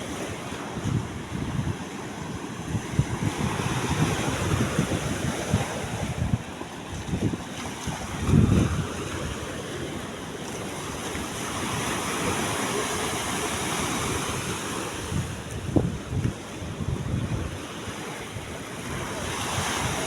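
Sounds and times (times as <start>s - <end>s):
sea waves washing: 0.0s - 20.0s
wind gusting across microphone: 0.0s - 20.0s.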